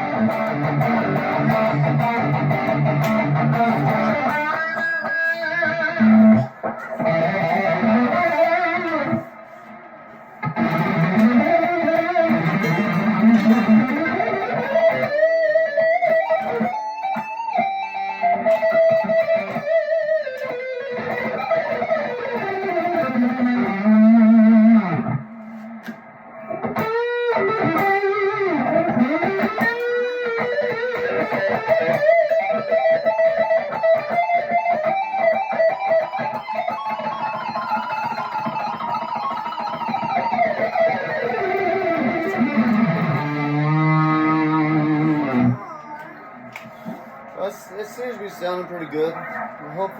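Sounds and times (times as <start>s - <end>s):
electric guitar lead lines: 0.0s - 49.9s.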